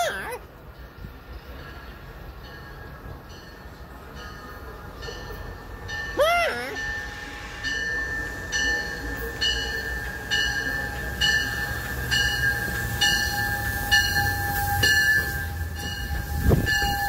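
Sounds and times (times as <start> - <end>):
train rolling rumble: 0.0 - 17.0
bell ringing: 2.4 - 17.0.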